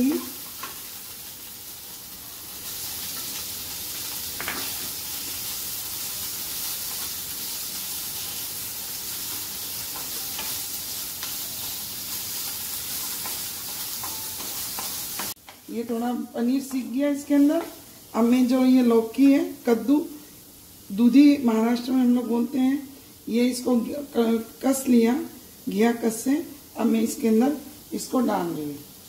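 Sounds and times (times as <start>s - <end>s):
food sizzling in a pan: 0.0s - 29.0s.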